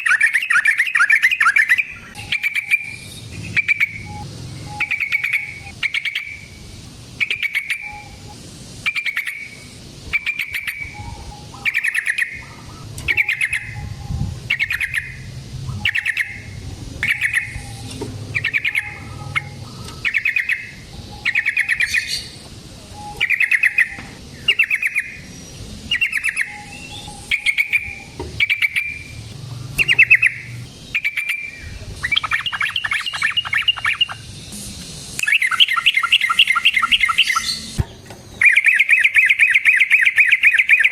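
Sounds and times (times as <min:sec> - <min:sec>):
bulbul singing bubbling phrases: 0:01.1 - 0:34.3.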